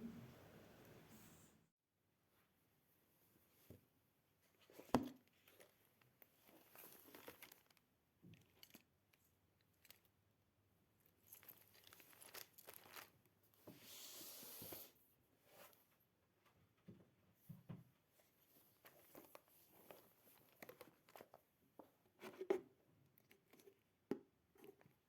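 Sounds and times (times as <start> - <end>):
soft rustling and crinkling: 2.3 - 13.9, 14.6 - 25.0.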